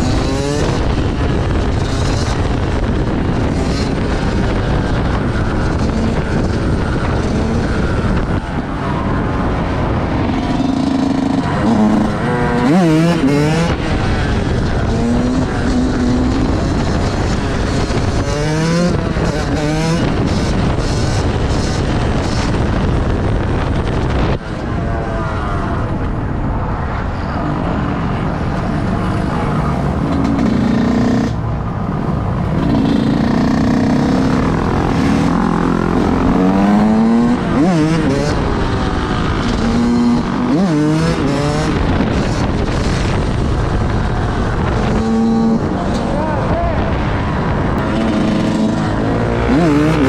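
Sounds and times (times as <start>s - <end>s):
vehicle engines revving: 0.0s - 50.0s.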